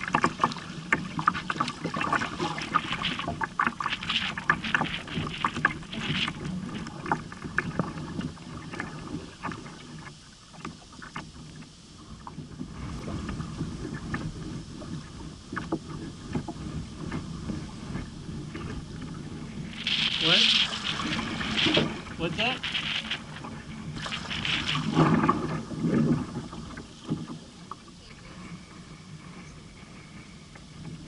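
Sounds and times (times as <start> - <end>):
water splashing against kayak hull: 0.0 - 31.0
wind rumbling on microphone: 0.0 - 31.0.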